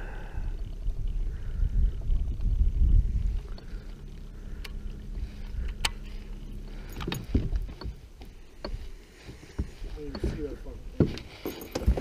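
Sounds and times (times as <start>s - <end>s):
faint steady hum: 0.0s - 12.0s
low rumble: 0.0s - 12.0s.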